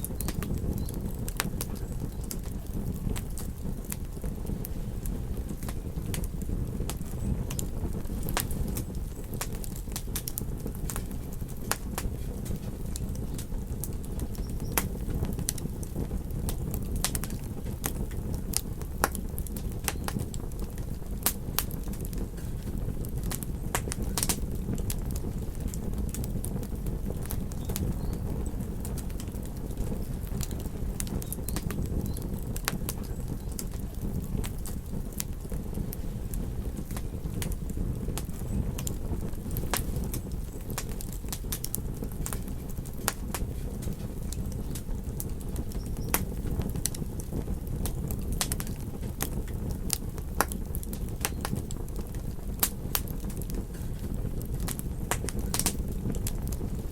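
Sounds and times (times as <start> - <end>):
fire burning with low rumble: 0.0 - 56.9
fire crackling and popping: 0.0 - 56.9.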